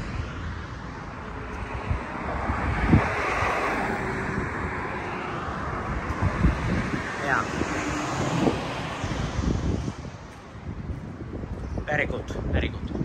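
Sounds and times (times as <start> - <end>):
vehicle passing: 0.0 - 12.2
highway traffic rushing: 0.0 - 13.0.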